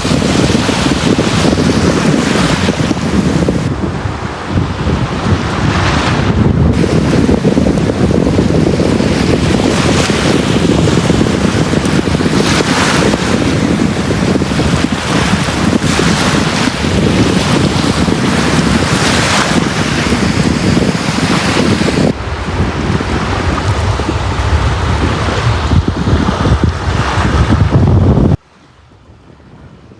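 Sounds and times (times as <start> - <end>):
waves washing onto beach: 0.0 - 27.8.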